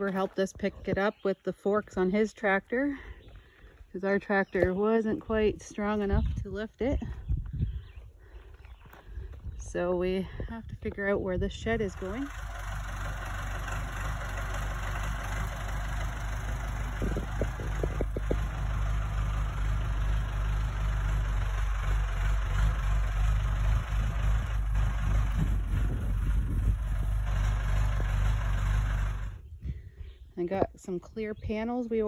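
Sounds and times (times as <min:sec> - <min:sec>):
tractor engine running: 0:00.0 - 0:29.7.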